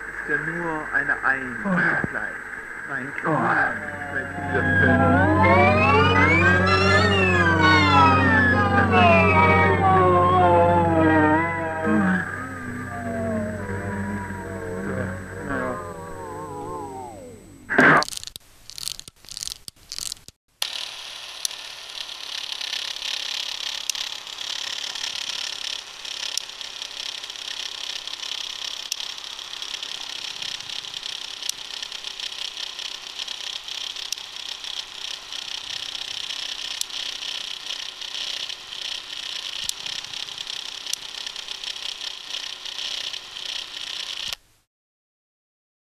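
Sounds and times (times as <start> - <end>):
clockwork cine camera whirring: 0.0 - 44.4.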